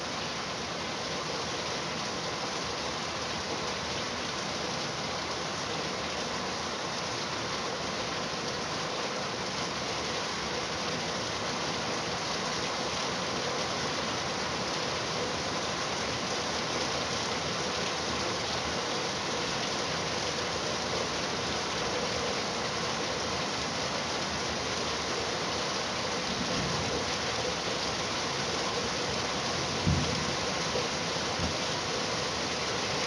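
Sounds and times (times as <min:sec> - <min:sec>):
steady rainfall: 0:00.0 - 0:33.0.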